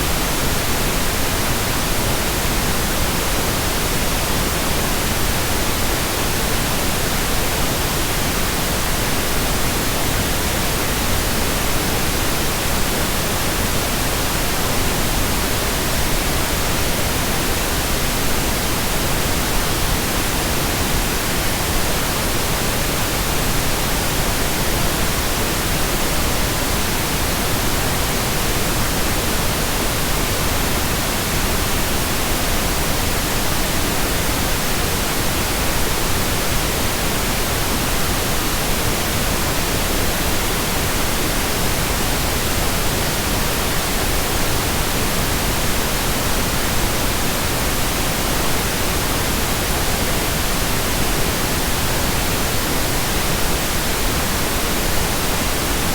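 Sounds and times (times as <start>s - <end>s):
pink noise hiss: 0.0s - 55.9s.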